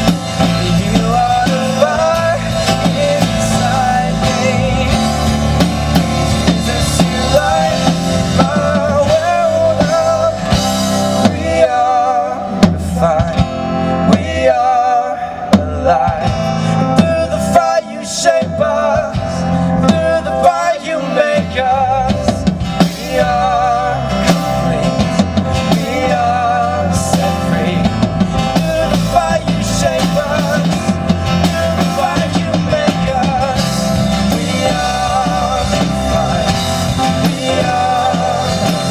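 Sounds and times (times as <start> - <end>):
rock music with drums and guitar: 0.0 - 38.9.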